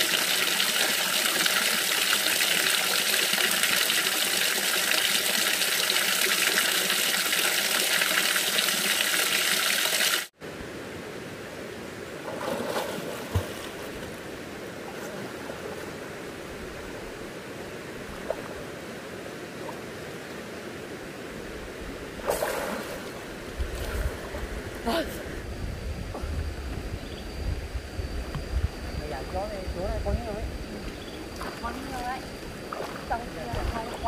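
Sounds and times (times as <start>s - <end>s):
stream water rushing: 0.0s - 25.0s, 30.9s - 34.0s.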